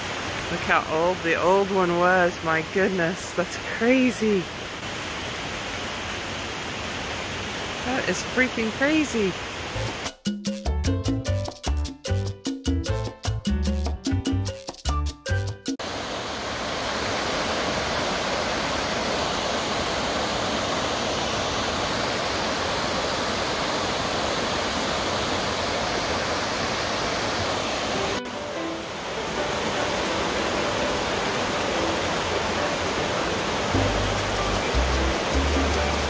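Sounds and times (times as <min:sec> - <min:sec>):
creek rushing over boulders: 0:00.0 - 0:10.1, 0:15.8 - 0:36.0.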